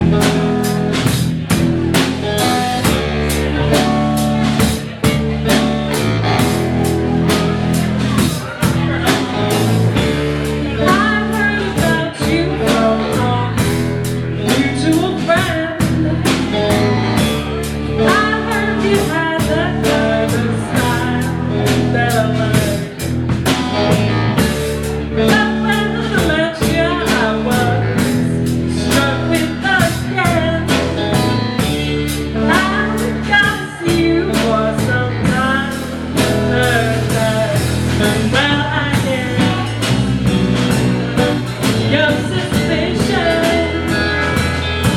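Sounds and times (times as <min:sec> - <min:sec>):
drum kit steady beat: 0:00.0 - 0:44.9
electric guitar: 0:00.0 - 0:44.9
person singing: 0:02.4 - 0:44.9.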